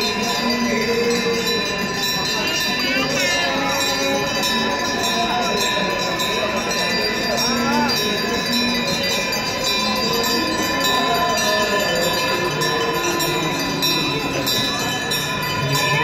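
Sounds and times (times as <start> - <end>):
temple bells ringing: 0.0 - 16.0.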